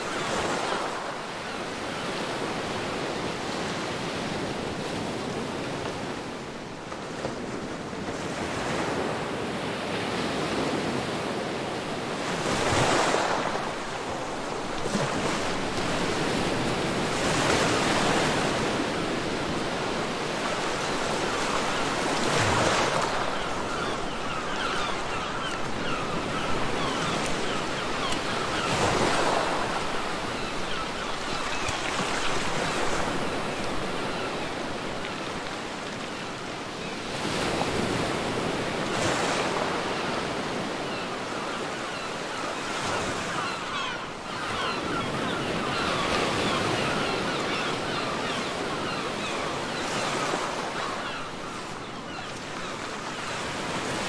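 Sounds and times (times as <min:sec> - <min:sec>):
ocean waves breaking: 0:00.0 - 0:54.0
wind: 0:00.0 - 0:54.0.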